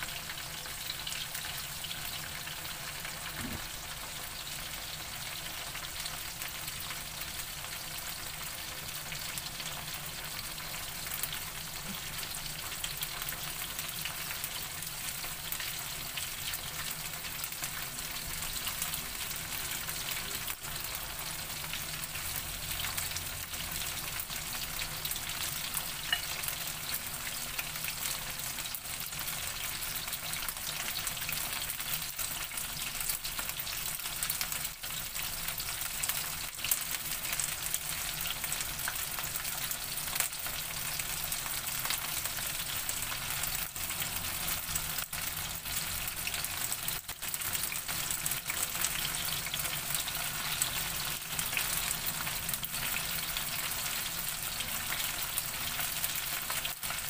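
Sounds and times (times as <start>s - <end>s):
chicken deep-frying in hot oil: 0.0s - 57.0s.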